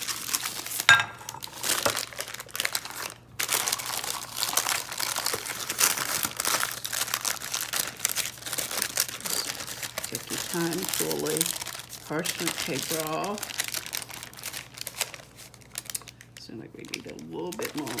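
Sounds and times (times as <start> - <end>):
parchment paper crinkling: 0.0 - 18.0
sharp paper crackle: 0.0 - 18.0.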